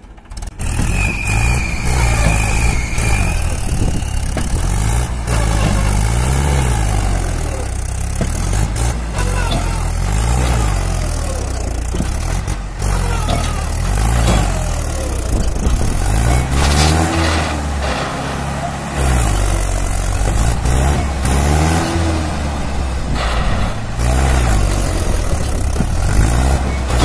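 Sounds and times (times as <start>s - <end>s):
tractor diesel engine revving: 0.0s - 27.0s.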